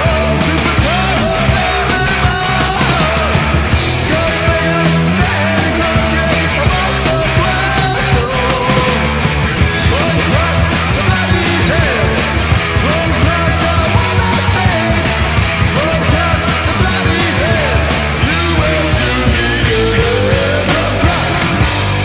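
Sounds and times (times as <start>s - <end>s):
loud speed metal music: 0.0s - 22.0s.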